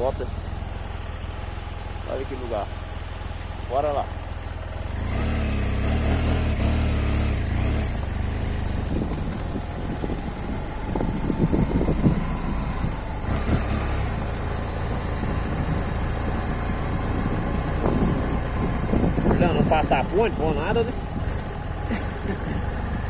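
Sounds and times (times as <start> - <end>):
motorcycle engine low rumble: 0.0 - 23.0.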